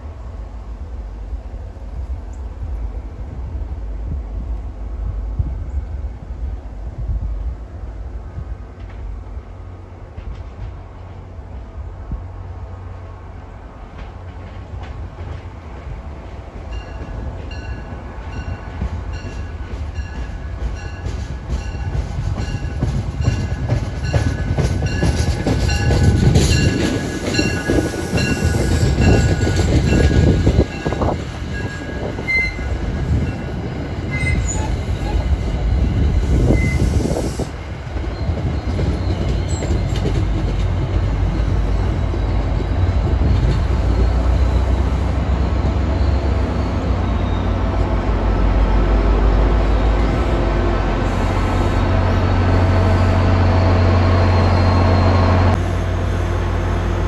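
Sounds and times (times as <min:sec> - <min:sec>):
train wheels rumbling and clacking: 0:00.0 - 0:57.0.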